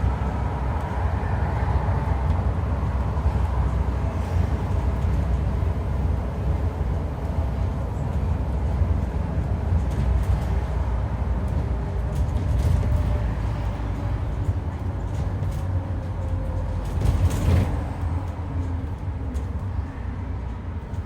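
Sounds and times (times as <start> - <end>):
bus engine low rumble: 0.0 - 21.0.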